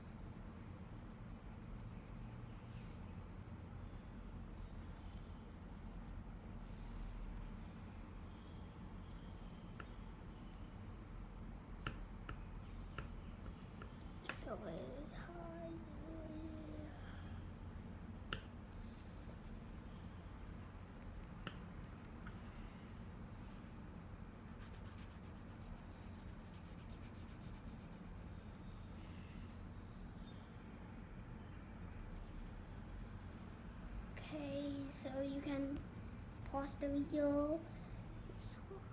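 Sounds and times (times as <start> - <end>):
colour pencil on paper: 0.0 - 3.1, 5.0 - 22.2, 24.3 - 28.5, 30.6 - 38.9
steady low hum: 0.0 - 38.9.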